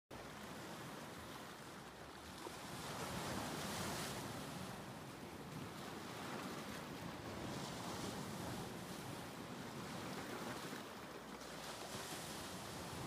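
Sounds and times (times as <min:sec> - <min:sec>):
small waves lapping at shore: 0:00.1 - 0:13.0
wind: 0:00.1 - 0:13.0.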